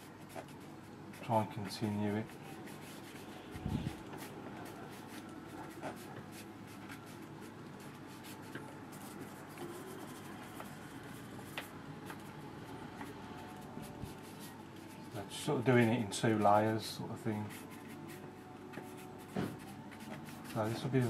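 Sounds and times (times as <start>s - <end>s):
paintbrush scratching on paper: 0.0s - 12.2s, 13.0s - 21.0s.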